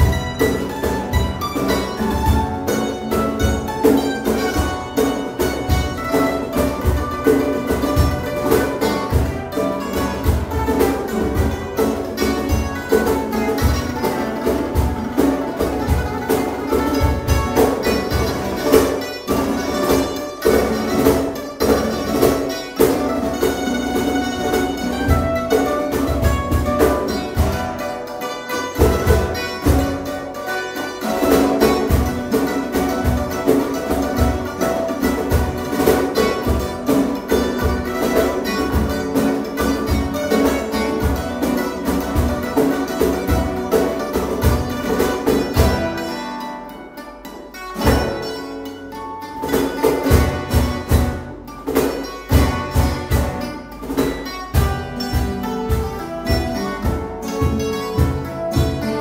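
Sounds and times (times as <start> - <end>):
cajon beat: 0.0 - 59.0
plucked string melody: 0.0 - 59.0
strummed guitar chords: 0.0 - 59.0.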